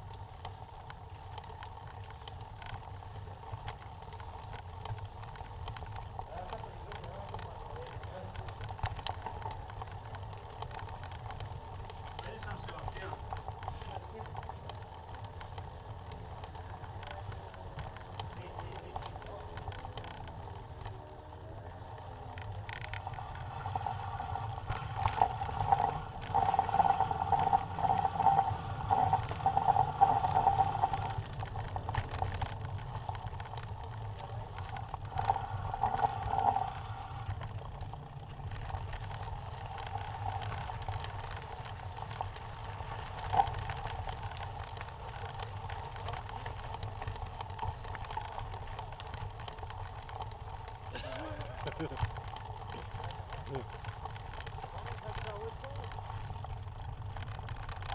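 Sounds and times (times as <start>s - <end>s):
rattling whir: 0.0s - 57.9s
tyres and frame rumbling: 0.0s - 57.9s.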